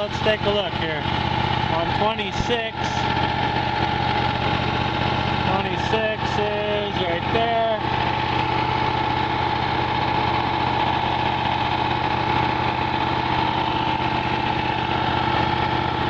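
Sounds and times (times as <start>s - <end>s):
generator engine drone: 0.0s - 16.0s.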